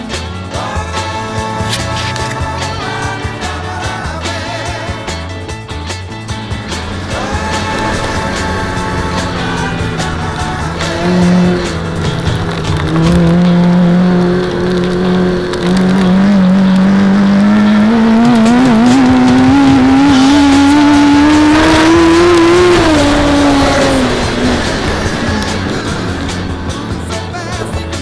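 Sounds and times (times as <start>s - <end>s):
racing engine at full throttle: 0.0s - 28.0s.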